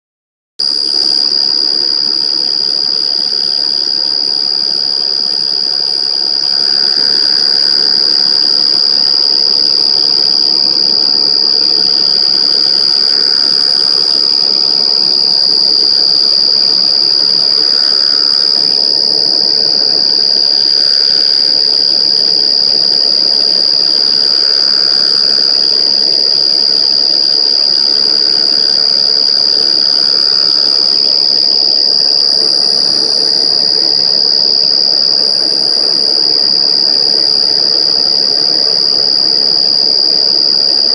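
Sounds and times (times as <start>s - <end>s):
insect high-pitched shrill call: 0.7s - 40.9s.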